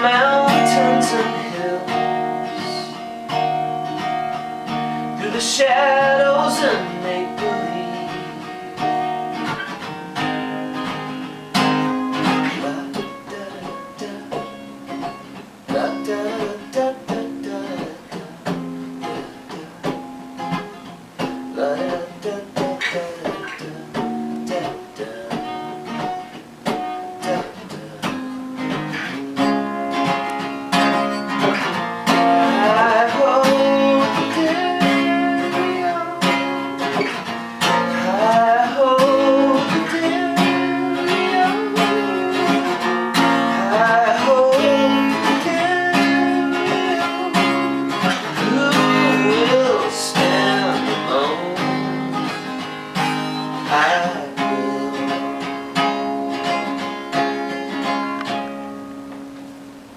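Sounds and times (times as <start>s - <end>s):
acoustic guitar music: 0.0s - 59.9s.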